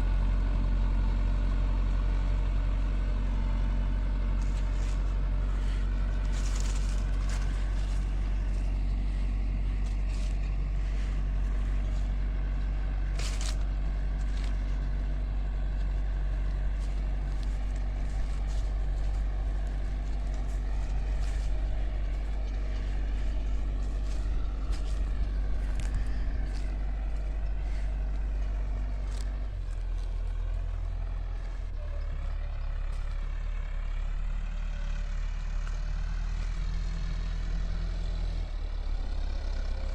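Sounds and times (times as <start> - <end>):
tractor diesel engine: 0.0 - 39.9.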